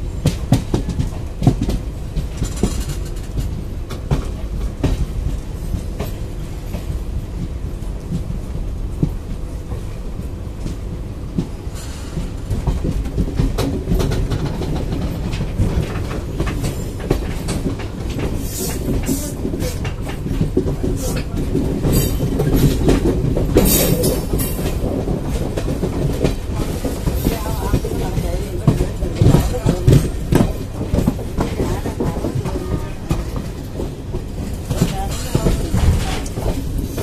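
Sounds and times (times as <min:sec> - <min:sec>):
train wheels rumbling and clacking: 0:00.0 - 0:37.0.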